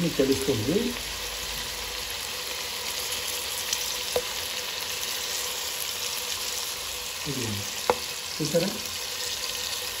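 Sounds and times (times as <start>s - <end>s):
prawns sizzling in hot oil: 0.0s - 10.0s.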